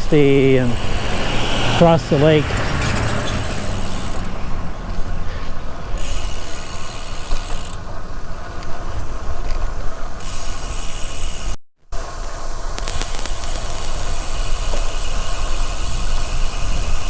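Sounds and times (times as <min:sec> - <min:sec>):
road noise: 0:00.0 - 0:11.4, 0:12.0 - 0:17.0
wind: 0:00.0 - 0:17.0
bike freehub ticking: 0:03.3 - 0:17.0.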